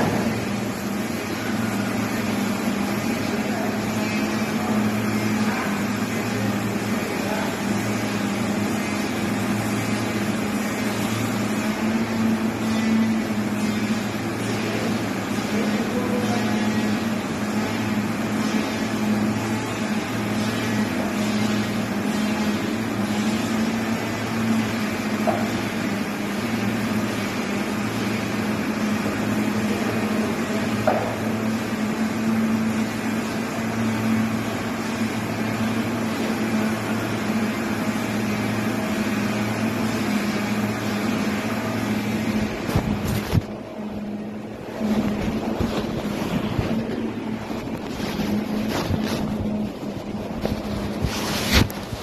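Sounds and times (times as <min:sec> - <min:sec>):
heavy machinery humming: 0:00.0 - 0:52.0.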